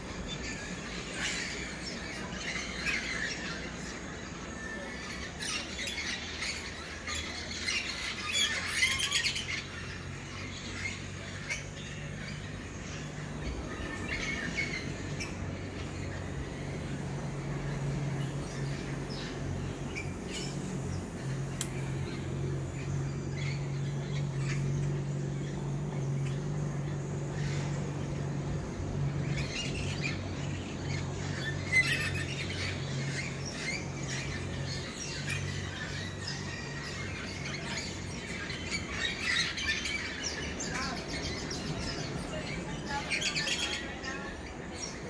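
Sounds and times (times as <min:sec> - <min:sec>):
birds chirping and squawking: 0:00.0 - 0:45.0
low motor hum: 0:00.0 - 0:45.0.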